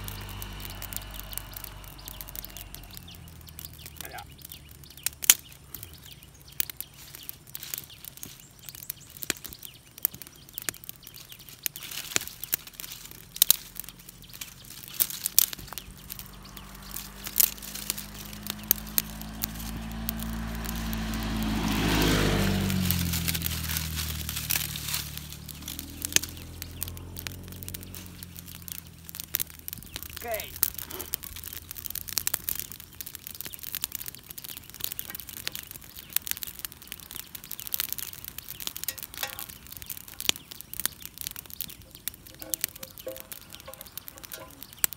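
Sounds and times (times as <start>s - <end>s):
campfire crackling: 0.0s - 44.9s
sharp pops of fire: 0.0s - 44.9s.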